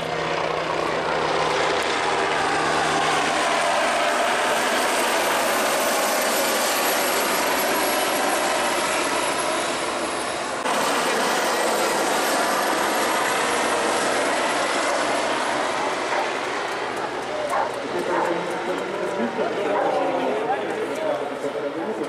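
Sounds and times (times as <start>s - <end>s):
helicopters flying past: 0.0s - 22.0s.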